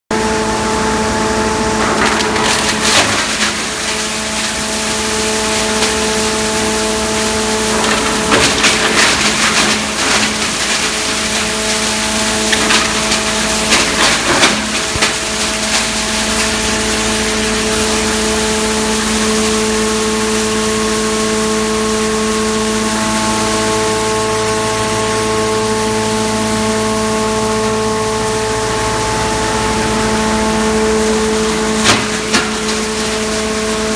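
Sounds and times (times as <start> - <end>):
wood shavings machine humming: 0.1 - 33.9
wood crackling and splintering: 1.7 - 33.9.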